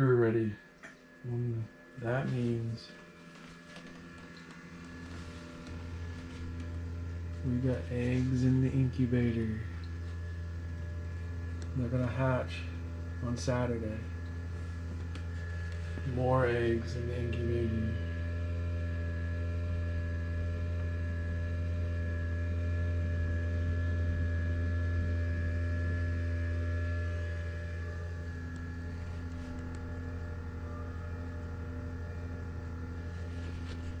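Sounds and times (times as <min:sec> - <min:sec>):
incubator fan electric hum: 0:00.0 - 0:34.0.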